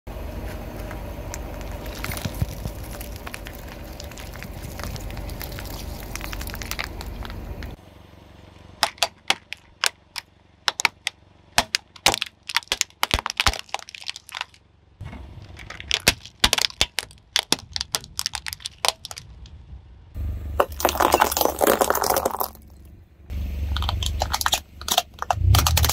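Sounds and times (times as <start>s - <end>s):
car engine rumble: 0.1s - 25.9s
things crushed under tyre: 1.4s - 7.8s, 8.8s - 19.5s, 20.6s - 22.9s, 23.8s - 25.9s.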